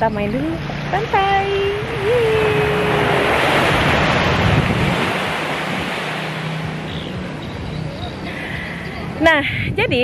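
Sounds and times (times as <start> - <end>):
wind buffeting microphone: 0.0 - 10.0
surf washing up a beach: 0.4 - 9.8.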